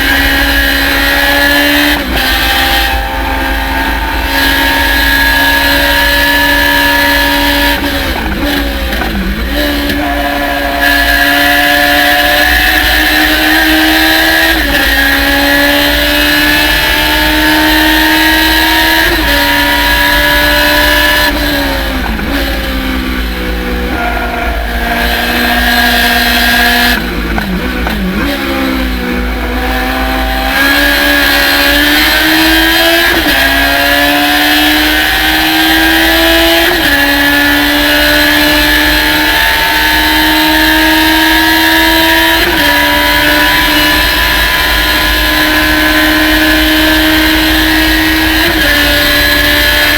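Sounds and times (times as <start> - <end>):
race car engine at full throttle: 0.0 - 49.9.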